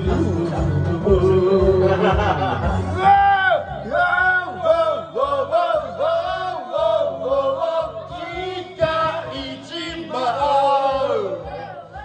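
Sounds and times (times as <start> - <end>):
backing track with steady beat: 0.0 - 12.0
man singing into microphone: 0.0 - 12.0.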